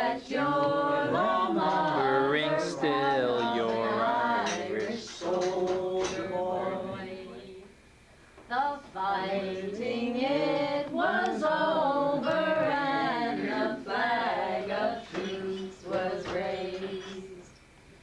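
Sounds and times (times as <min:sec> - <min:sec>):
voices singing unaccompanied: 0:00.0 - 0:07.8, 0:08.5 - 0:17.7.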